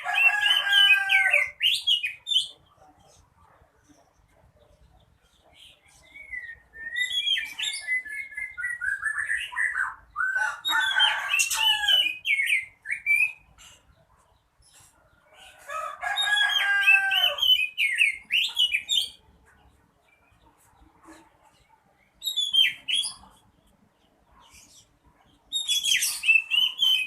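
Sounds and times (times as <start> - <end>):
bird singing varied song: 0.0 - 27.0.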